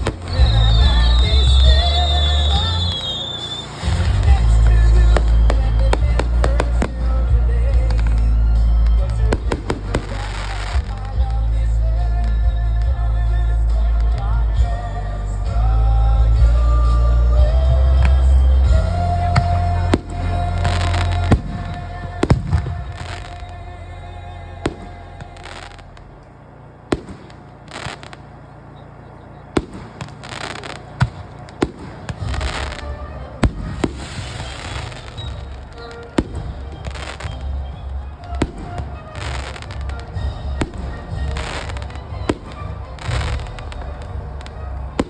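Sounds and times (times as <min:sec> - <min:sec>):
fireworks bangs: 0:00.0 - 0:45.0
fireworks crackling: 0:00.0 - 0:45.0
music playing: 0:00.0 - 0:45.0.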